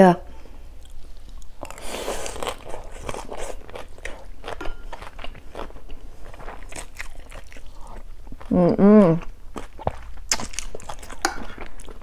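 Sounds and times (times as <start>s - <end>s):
crispy food crunching: 0.8s - 8.6s, 9.2s - 12.0s.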